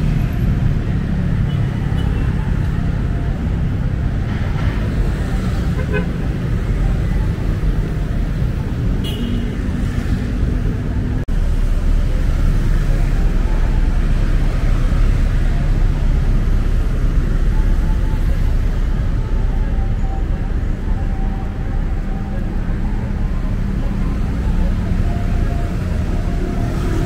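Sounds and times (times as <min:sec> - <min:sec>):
heavy road traffic rumble: 0:00.0 - 0:27.0.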